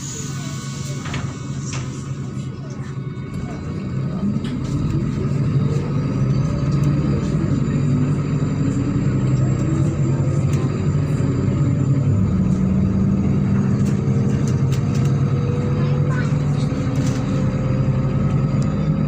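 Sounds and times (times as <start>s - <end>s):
bus engine from inside: 0.0s - 19.0s.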